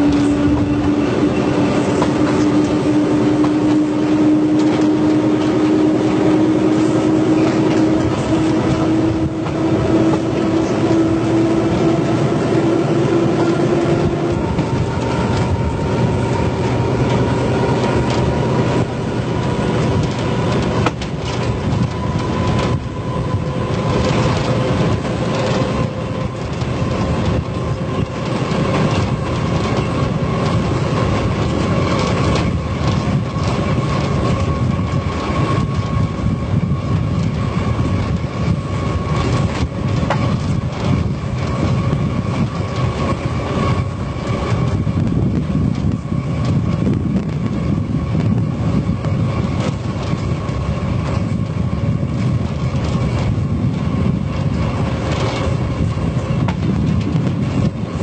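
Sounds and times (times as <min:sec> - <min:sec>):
clickety-clack over rail joints: 0:00.0 - 0:58.0
train running on rails: 0:00.0 - 0:58.0.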